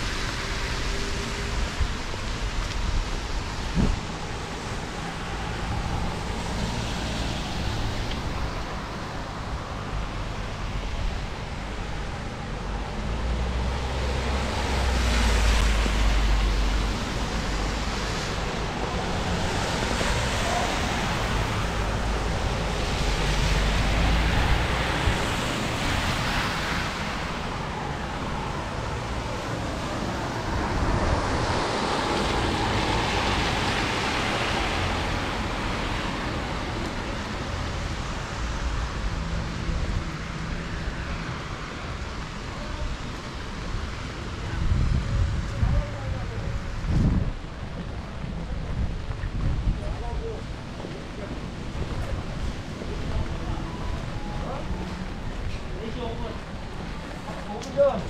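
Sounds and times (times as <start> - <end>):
wind rumble on microphone: 0.0 - 13.6, 14.2 - 57.5
steady rain: 0.0 - 58.0
tyres hissing on wet asphalt: 0.0 - 58.0.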